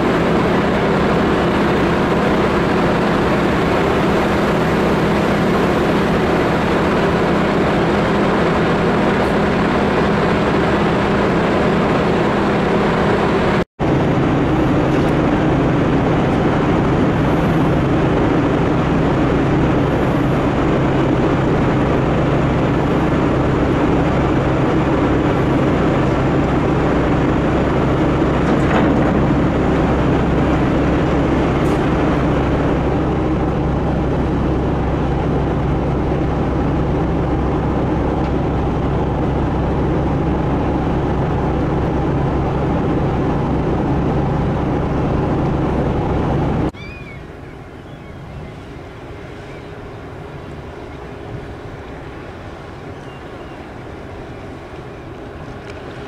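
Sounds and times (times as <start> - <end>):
ship diesel engines droning: 0.0 - 56.0.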